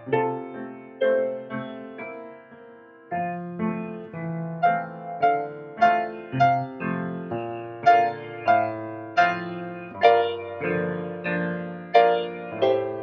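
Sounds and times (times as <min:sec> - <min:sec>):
slow solo piano melody: 0:00.0 - 0:13.0.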